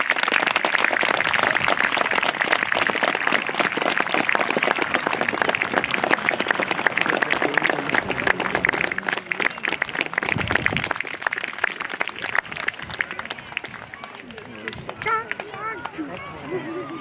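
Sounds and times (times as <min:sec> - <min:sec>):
crowd clapping: 0:00.0 - 0:17.0.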